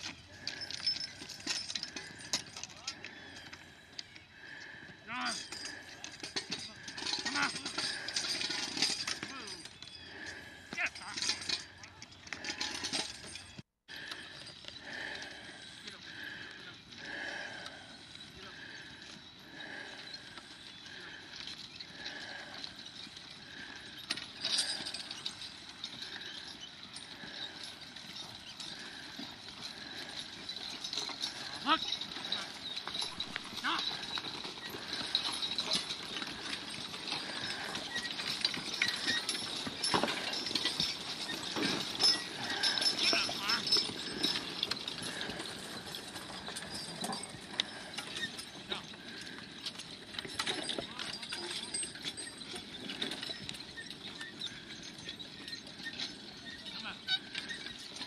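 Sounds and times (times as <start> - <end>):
hoof falls: 0.0 - 56.2
hooves and harness walking: 0.0 - 58.0.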